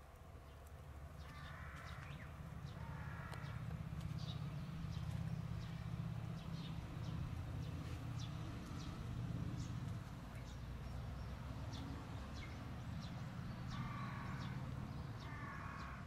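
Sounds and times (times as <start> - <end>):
birds chirping: 0.3 - 16.0.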